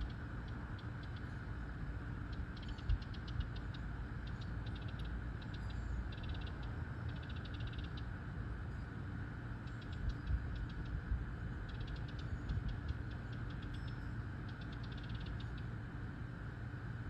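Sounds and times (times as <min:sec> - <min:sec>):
songbird trilling: 0:00.0 - 0:08.2, 0:09.6 - 0:15.8
low background rumble: 0:00.0 - 0:17.0.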